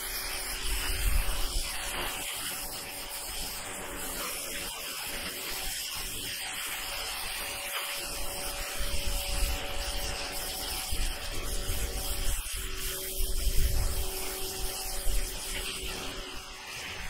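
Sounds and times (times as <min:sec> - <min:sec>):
pressure washer water jet hissing: 0:00.0 - 0:17.0.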